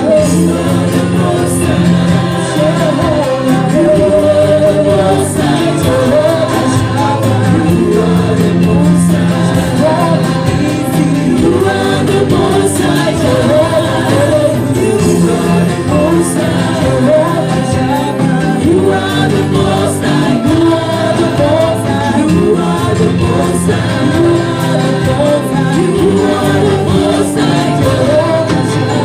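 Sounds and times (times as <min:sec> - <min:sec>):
choir singing gospel song: 0:00.0 - 0:29.0
electric guitar: 0:00.0 - 0:29.0
live band: 0:00.0 - 0:29.0.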